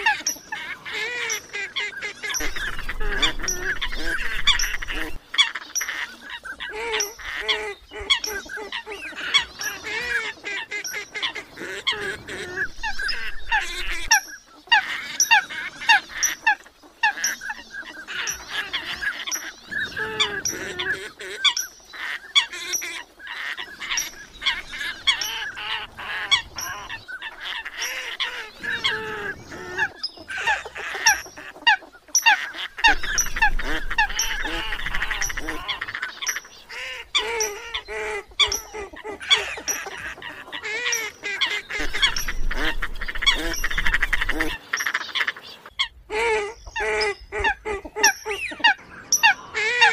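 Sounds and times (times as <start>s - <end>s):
flock of coots calling: 0.0s - 49.9s.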